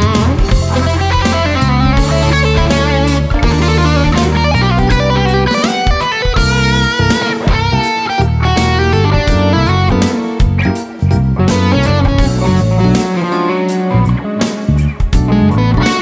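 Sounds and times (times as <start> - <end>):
backing drums and bass: 0.0 - 16.0
electric guitar lead solo: 0.0 - 16.0.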